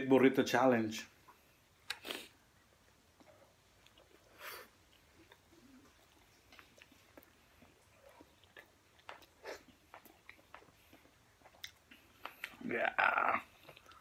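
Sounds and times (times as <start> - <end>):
people chewing food: 1.1 - 14.0.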